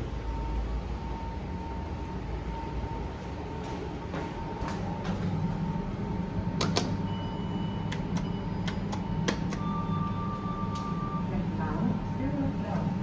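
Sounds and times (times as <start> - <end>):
steady low hum: 0.0 - 13.0
steady lower tone: 0.0 - 13.0.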